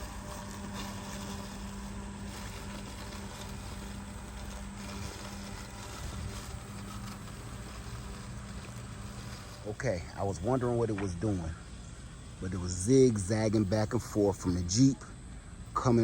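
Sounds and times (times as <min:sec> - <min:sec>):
robotic lawnmower humming: 0:00.0 - 0:16.0.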